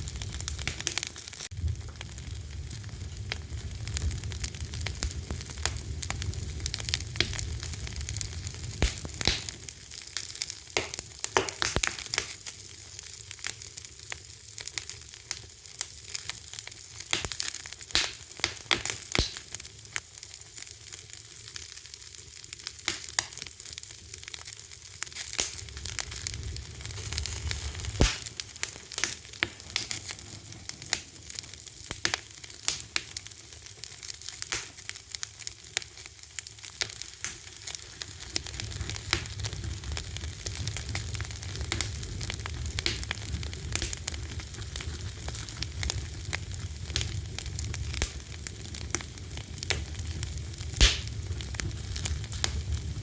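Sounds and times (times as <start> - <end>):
loud sharp fire cracks: 0.0 - 53.0
wood fire crackling and popping: 0.0 - 53.0.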